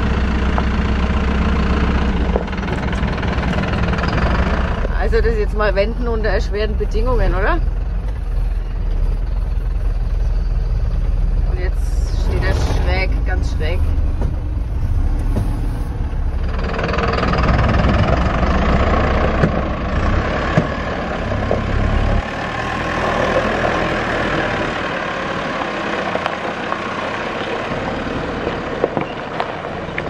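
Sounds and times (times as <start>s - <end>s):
diesel truck engine rumbling: 0.0s - 30.0s
tyres on loose gravel: 0.0s - 30.0s.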